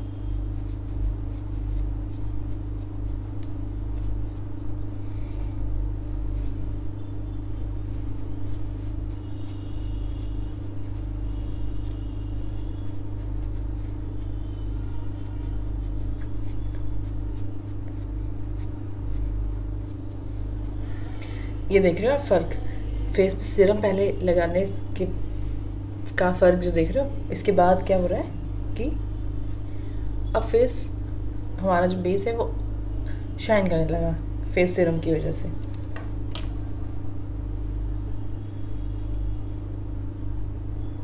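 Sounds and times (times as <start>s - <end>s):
machine humming: 0.0s - 33.5s.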